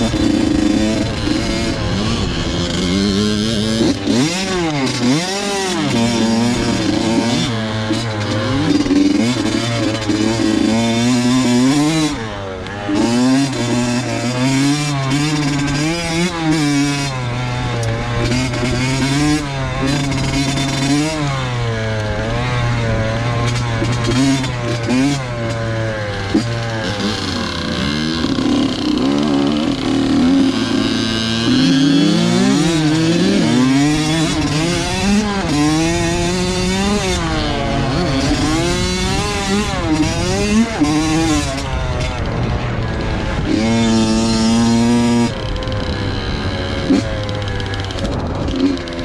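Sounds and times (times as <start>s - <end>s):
two-stroke dirt bike revving: 0.0s - 49.0s.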